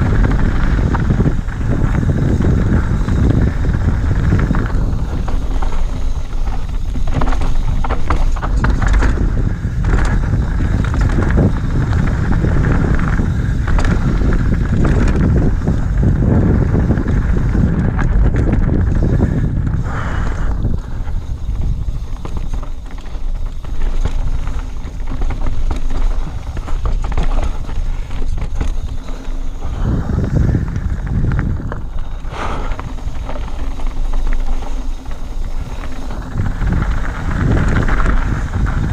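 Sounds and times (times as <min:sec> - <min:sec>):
bike clattering: 0:00.0 - 0:38.9
bike tyres rolling over stones: 0:00.0 - 0:38.9
wind buffeting microphone: 0:00.0 - 0:38.9.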